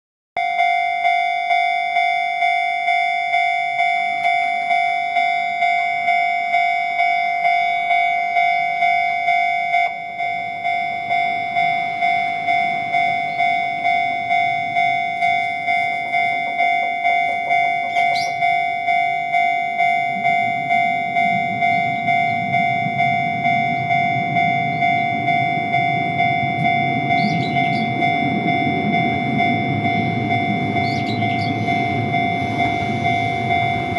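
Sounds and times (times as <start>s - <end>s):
level crossing electronic bell: 0.4s - 33.9s
approaching train rumble: 3.7s - 33.9s.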